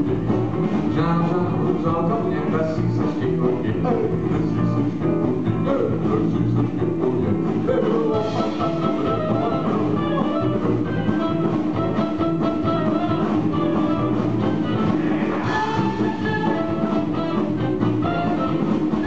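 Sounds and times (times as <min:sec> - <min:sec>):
drum kit: 0:00.0 - 0:19.0
electric guitar: 0:00.0 - 0:19.0
live band playing upbeat song: 0:00.0 - 0:19.0.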